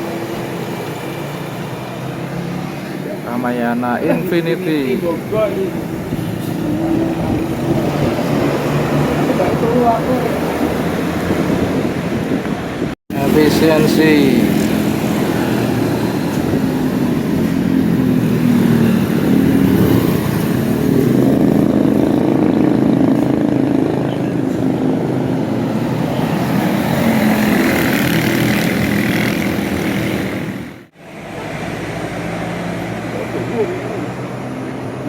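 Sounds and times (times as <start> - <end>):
diesel bus engine running: 0.0 - 35.0.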